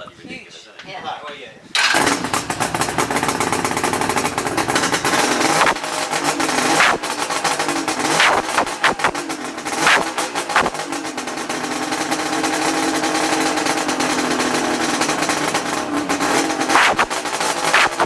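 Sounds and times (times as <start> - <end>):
engine pops: 1.8 - 18.0
two-stroke engine running: 1.8 - 18.0.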